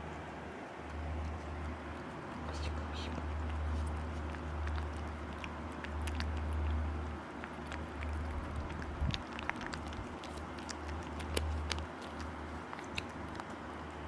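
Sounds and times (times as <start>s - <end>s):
cats licking and eating: 0.0s - 14.0s
steady low hum: 0.0s - 14.0s.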